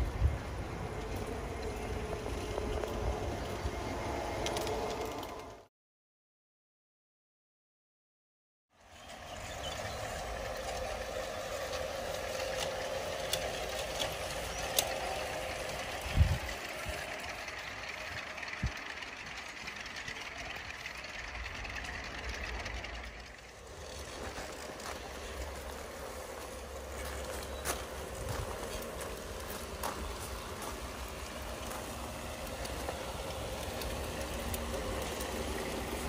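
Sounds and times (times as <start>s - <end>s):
model train diesel engine sound: 0.0s - 5.7s, 8.7s - 36.0s.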